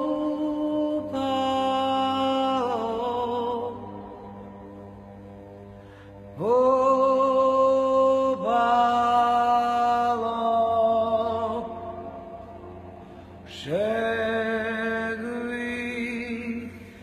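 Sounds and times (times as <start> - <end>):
man chanting long notes: 0.0 - 17.0.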